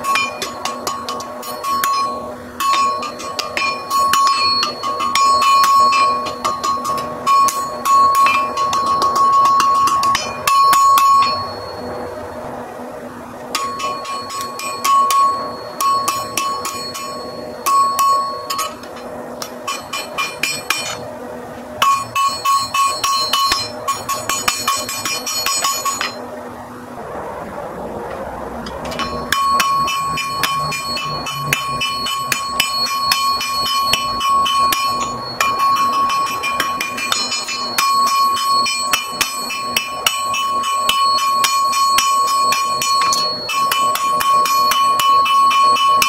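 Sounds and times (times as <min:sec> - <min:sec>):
hammer striking ringing anvil: 0:00.0 - 0:12.5, 0:13.5 - 0:21.0, 0:21.8 - 0:26.2, 0:28.6 - 0:46.0.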